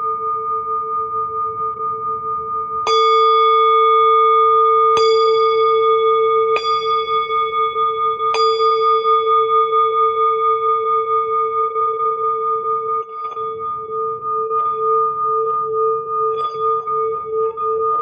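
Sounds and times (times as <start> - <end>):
singing bowl ringing: 0.0 - 18.0
singing bowl strike: 2.8 - 18.0.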